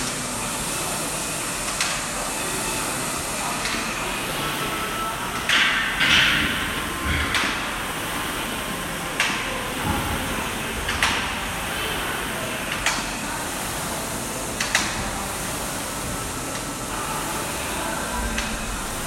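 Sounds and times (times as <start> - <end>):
noisy gym ambience: 0.0 - 19.0.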